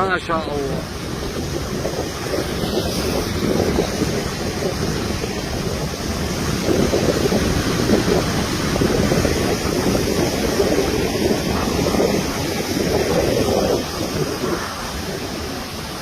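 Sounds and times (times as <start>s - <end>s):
rain: 0.0s - 16.0s
wind buffeting microphone: 0.0s - 16.0s.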